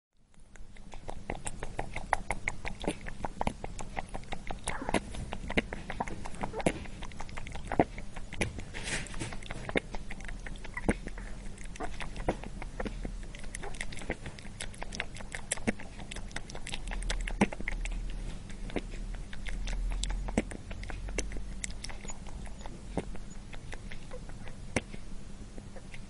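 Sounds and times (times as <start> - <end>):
low steady hum: 0.2 - 26.0
rabbit crunching chip: 0.3 - 25.0.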